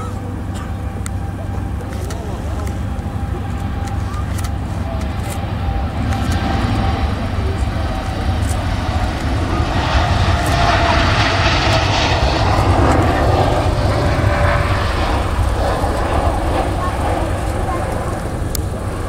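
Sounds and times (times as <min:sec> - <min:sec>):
jet engines at takeoff thrust: 0:00.0 - 0:19.0
steady low rumble: 0:00.0 - 0:19.0.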